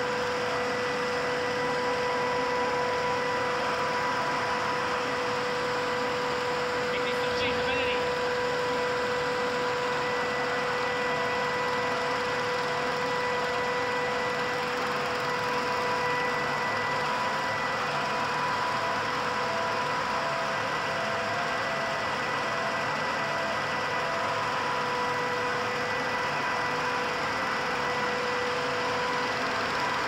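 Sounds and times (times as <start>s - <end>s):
constant machine whine: 0.0s - 30.0s.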